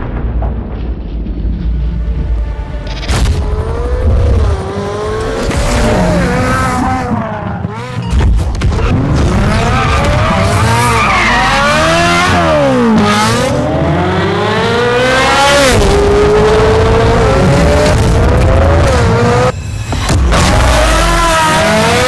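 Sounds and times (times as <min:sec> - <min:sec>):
car engine revving hard: 0:02.0 - 0:19.5, 0:20.2 - 0:22.0.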